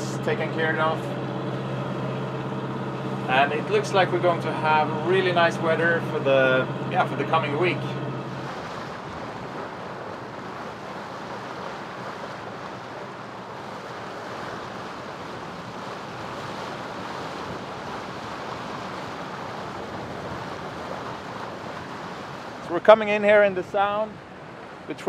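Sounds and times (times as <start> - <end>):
wind buffeting microphone: 0.0 - 22.6
water washing along hull: 0.0 - 25.0.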